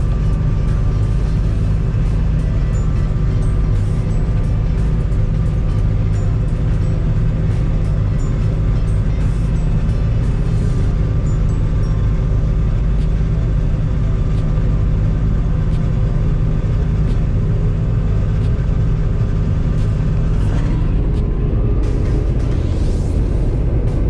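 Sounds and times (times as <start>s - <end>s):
heavy engine rumbling: 0.0s - 24.0s.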